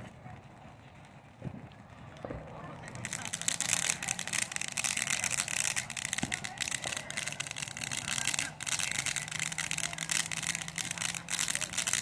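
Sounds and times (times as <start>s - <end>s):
firework fountain hissing and crackling: 0.0s - 12.0s.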